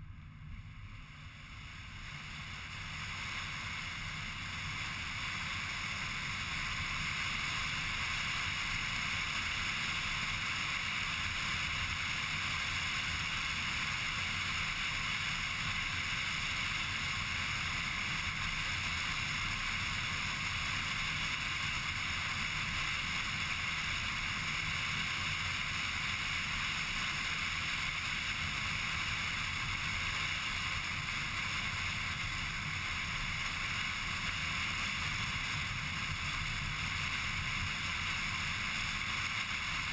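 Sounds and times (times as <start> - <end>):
road noise with low rumble: 0.0 - 39.9.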